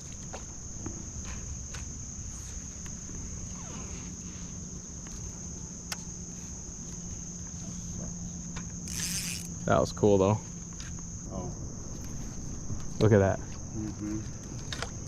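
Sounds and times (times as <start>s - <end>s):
high-pitched insect drone: 0.0s - 15.0s
low hum and rumble: 0.0s - 15.0s.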